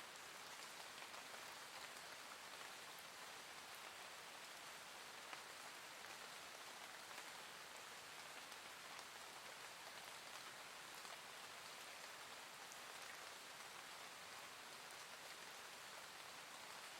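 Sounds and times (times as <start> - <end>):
soft steady rain: 0.0 - 16.9.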